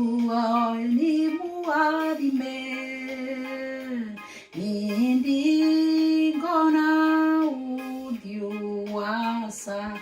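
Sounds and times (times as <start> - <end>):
woman singing gospel song: 0.0 - 10.0.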